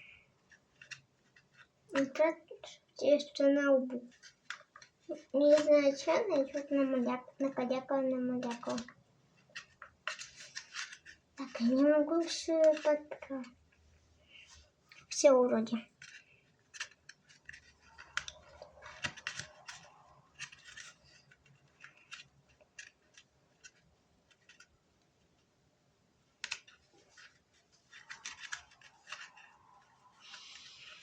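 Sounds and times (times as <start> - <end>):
light scratching on a mask: 0.0 - 2.2, 3.8 - 15.2, 15.8 - 24.8, 26.5 - 31.0.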